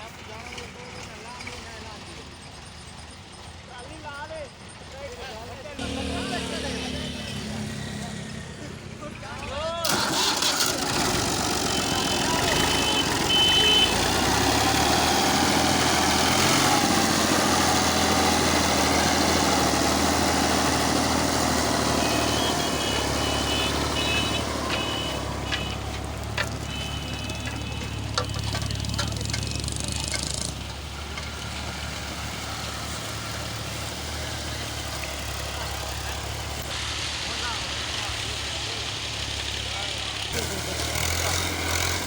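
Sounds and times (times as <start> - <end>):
diesel tractor engine under load: 4.5 - 42.0.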